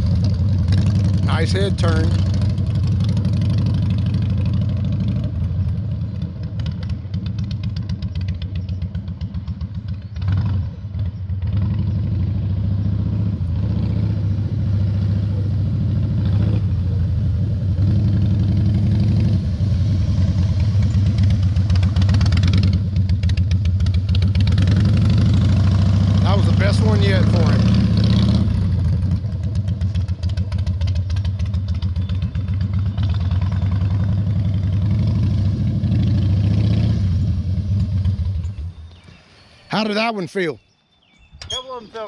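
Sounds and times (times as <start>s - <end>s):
motorcycle engine at low revs: 0.0s - 39.2s.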